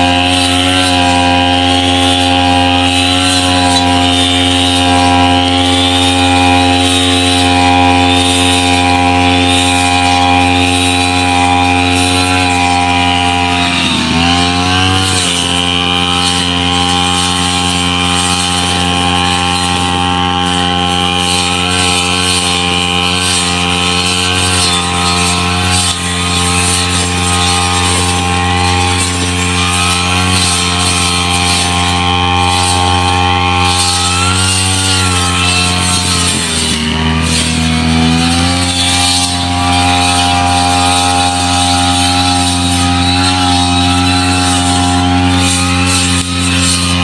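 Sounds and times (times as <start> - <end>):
brush cutter engine running: 0.0 - 47.0.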